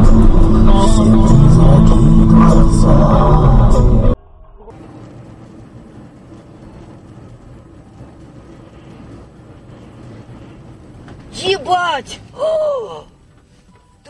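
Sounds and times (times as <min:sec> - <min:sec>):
car road noise on wet road: 0:00.0 - 0:14.0.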